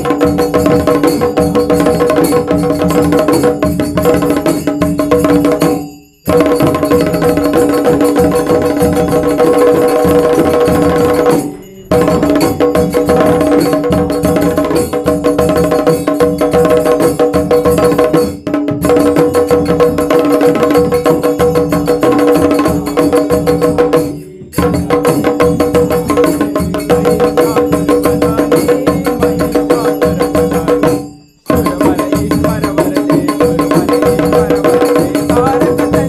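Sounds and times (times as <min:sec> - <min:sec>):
drum beaten with thin sticks: 0:00.0 - 0:36.0
drum ensemble playing: 0:00.0 - 0:36.0.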